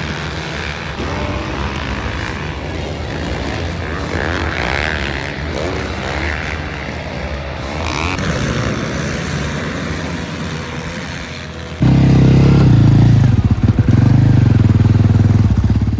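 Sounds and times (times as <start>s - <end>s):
loud engine at high revs: 0.0s - 15.9s
racing engines running: 0.0s - 15.9s.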